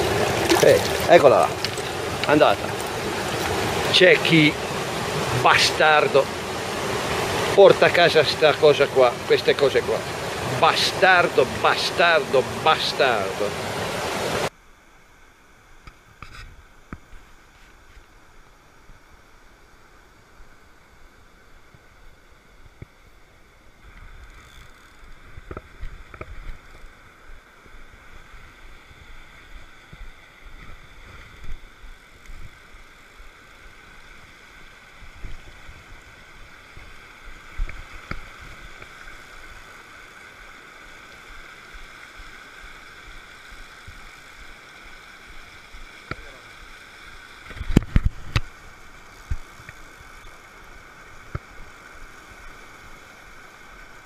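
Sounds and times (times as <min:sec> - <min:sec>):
stream rushing over rocks: 0:00.0 - 0:14.6, 0:25.1 - 0:54.0.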